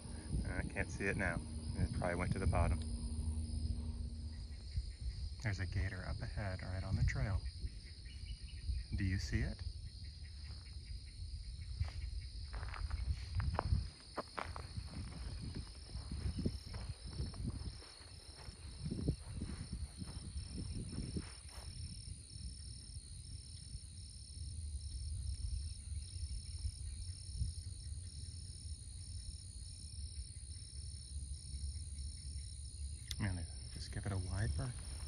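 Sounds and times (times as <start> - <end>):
insect chorus buzzing and chirping: 0.0 - 35.0.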